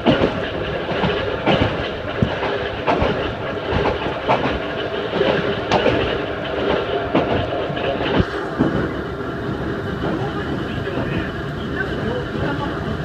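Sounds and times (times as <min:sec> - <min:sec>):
train running gear rumble: 0:00.0 - 0:13.0
wheels clacking over rail joints: 0:00.0 - 0:13.0.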